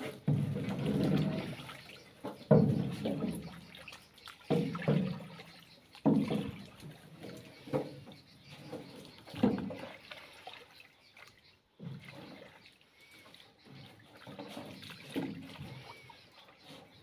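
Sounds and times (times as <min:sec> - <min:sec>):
paddle splashing in river water: 0:00.0 - 0:17.0.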